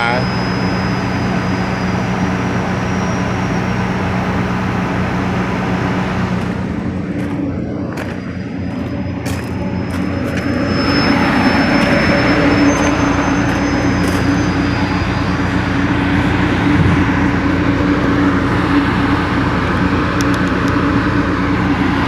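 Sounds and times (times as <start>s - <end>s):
compressor hum: 0.0s - 22.0s
condenser fan air rush: 0.0s - 22.0s.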